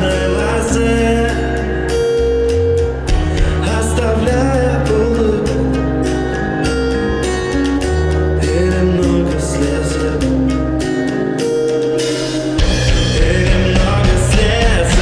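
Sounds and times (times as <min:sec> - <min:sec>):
bass: 0:00.0 - 0:15.0
drums: 0:00.0 - 0:15.0
guitar: 0:00.0 - 0:15.0
person singing: 0:00.0 - 0:15.0.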